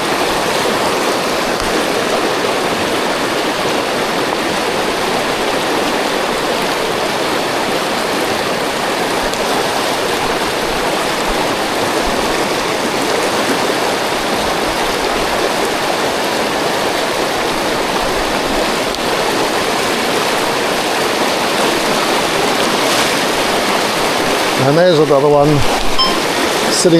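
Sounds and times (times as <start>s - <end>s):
river rushing: 0.0s - 26.9s.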